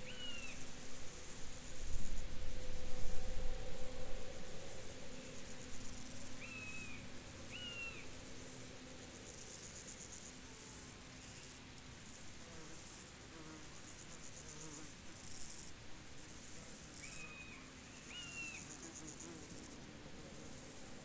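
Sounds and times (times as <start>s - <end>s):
insects chirping in pulsing trills: 0.0s - 10.5s, 13.8s - 21.0s.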